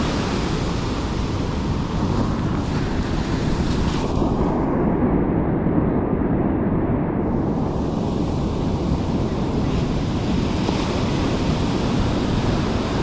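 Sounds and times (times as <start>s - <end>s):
surf: 0.0s - 13.0s
wind buffeting microphone: 0.0s - 13.0s.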